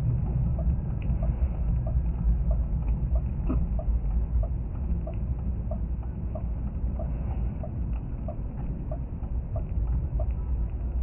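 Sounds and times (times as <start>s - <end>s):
car driving on snowy road: 0.0s - 11.0s
hazard lights ticking: 0.0s - 11.0s.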